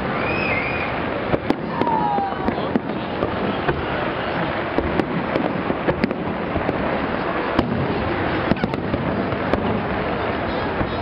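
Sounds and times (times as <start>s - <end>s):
fireworks bursts rumbling: 0.0s - 11.0s
fireworks cracks and pops: 0.0s - 11.0s.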